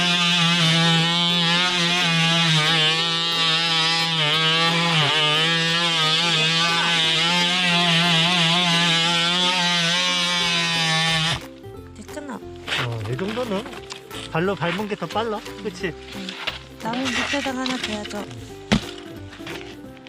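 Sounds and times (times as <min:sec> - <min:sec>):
multi-tool cutting wood: 0:00.0 - 0:11.6, 0:12.6 - 0:20.0.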